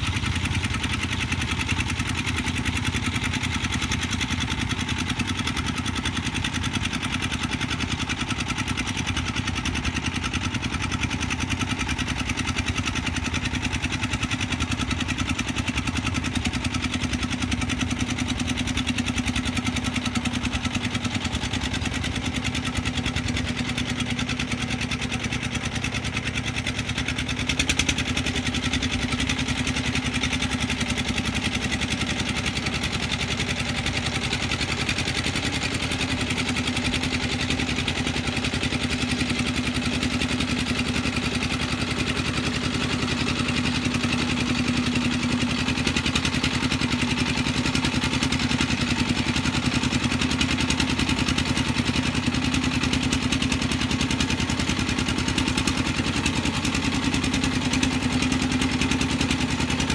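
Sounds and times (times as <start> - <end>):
single-cylinder diesel engine running: 0.0 - 59.9.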